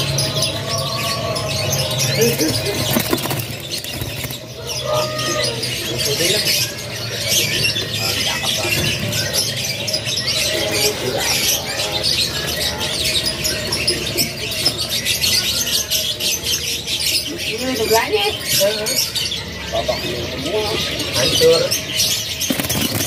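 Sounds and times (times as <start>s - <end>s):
canaries chirping: 0.0s - 23.0s.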